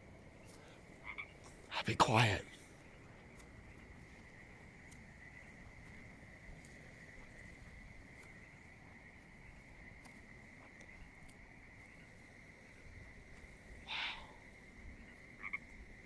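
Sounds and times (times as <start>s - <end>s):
faint ticks: 0.0s - 1.8s, 2.5s - 16.0s
chorus of frogs calling: 0.0s - 16.0s.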